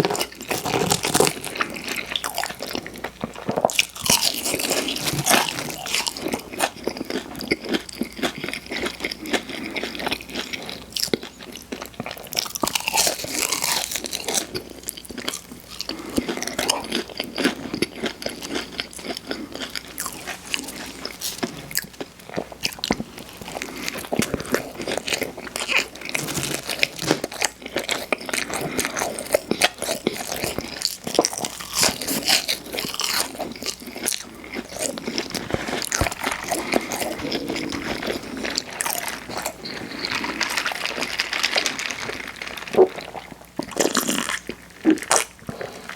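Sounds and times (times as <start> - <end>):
crunchy bites and chewing: 0.0 - 45.9.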